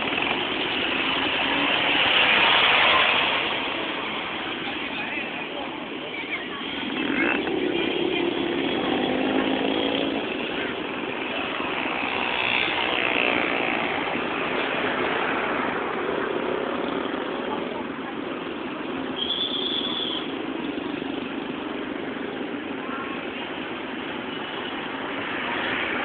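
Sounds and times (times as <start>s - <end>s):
motorcycle and car engines: 0.0s - 26.0s
people talking: 0.3s - 12.4s, 13.6s - 24.5s.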